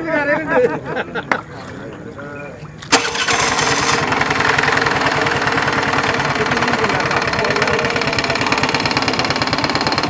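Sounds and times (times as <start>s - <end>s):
boat engine running steadily: 1.5s - 10.0s.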